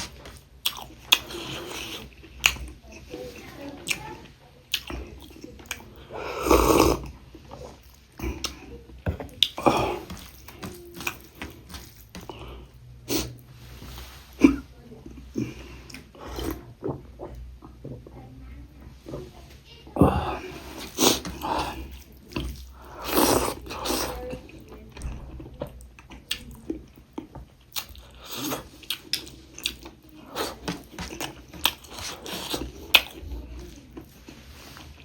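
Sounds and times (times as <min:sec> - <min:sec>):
person chewing: 0:00.0 - 0:17.4, 0:20.0 - 0:24.8, 0:25.7 - 0:35.0.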